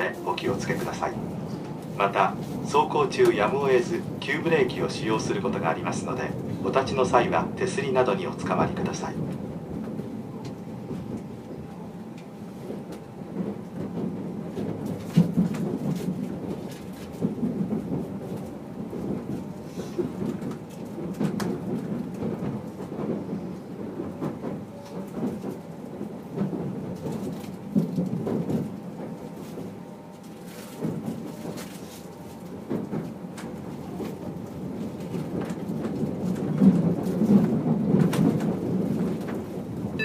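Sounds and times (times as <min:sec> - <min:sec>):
train cabin rumble: 0:00.0 - 0:40.0.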